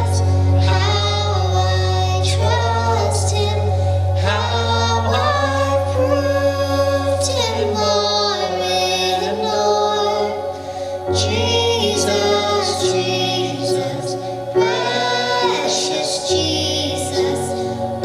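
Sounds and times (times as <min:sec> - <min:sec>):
low accompaniment notes: 0:00.0 - 0:18.0
man and woman singing duet: 0:00.0 - 0:18.0.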